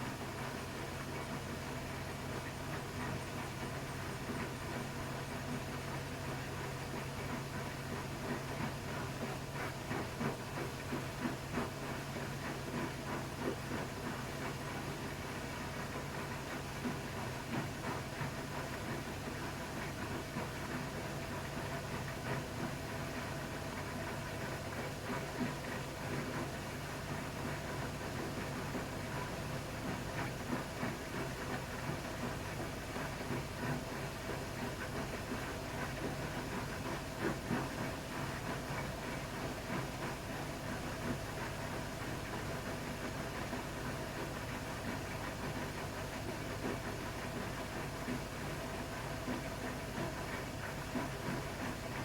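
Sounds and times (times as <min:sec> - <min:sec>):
washing machine motor hum: 0:00.0 - 0:52.0.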